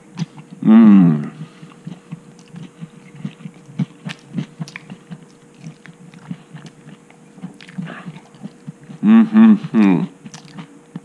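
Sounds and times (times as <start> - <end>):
person chewing sandwich: 0.0 - 11.0.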